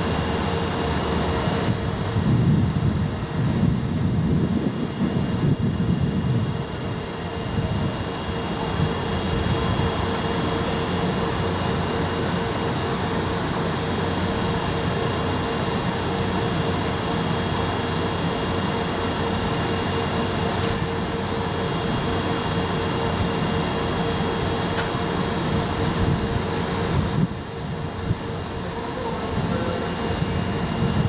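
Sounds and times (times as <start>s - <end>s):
cooling blowers whirring hum: 0.0s - 31.0s.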